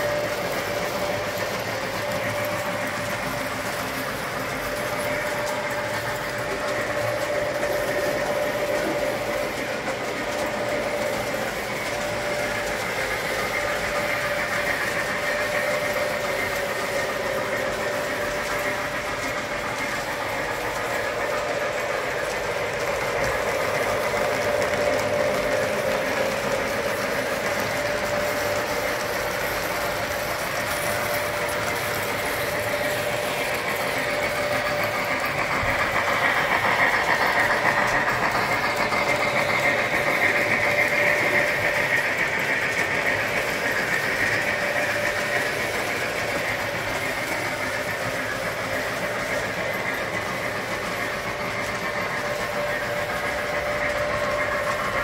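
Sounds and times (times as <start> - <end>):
constant hum: 0.0 - 55.0
model train wheels rattling: 0.0 - 55.0.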